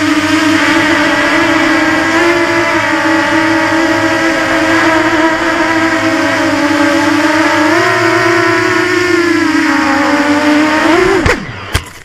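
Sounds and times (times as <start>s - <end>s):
quadcopter propellers buzzing: 0.0s - 12.0s.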